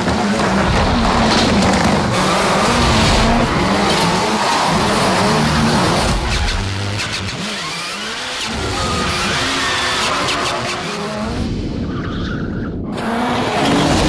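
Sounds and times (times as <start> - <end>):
car engine revving hard: 0.0 - 11.4, 13.0 - 14.0.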